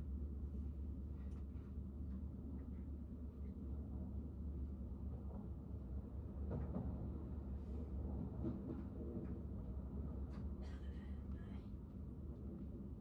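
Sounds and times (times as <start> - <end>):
train rumble inside passenger car: 0.2 - 13.0.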